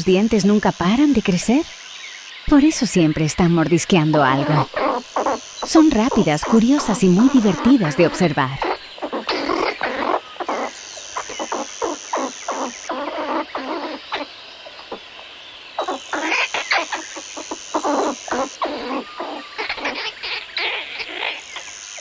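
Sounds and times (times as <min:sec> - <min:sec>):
squirrel chattering: 0:02.5 - 0:14.2, 0:15.8 - 0:21.7.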